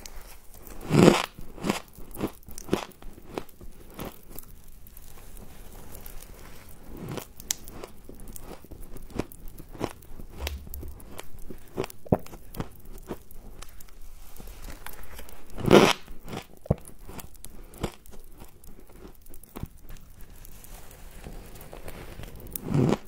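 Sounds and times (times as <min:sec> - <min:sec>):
chewing crunchy frost: 0:00.0 - 0:23.0.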